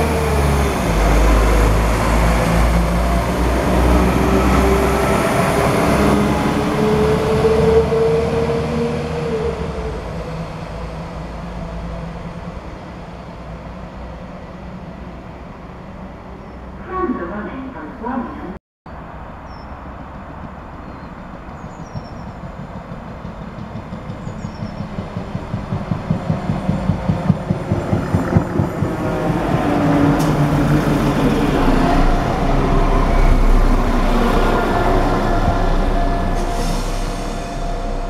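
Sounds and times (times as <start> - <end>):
train whine: 0.0 - 18.2, 20.0 - 38.0
train engine hum: 0.0 - 38.0.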